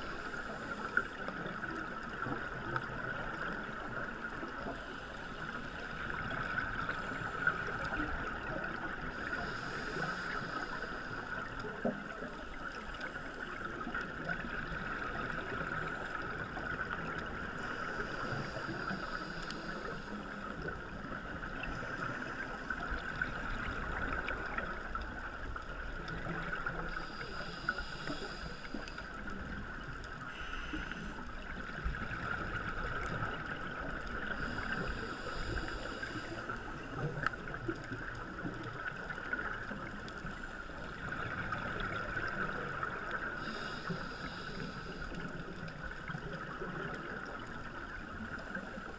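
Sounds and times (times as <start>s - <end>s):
constant high hum: 0.0s - 48.9s
muffled underwater hiss: 0.0s - 48.9s
regulator bubbles gurgling: 0.0s - 48.9s.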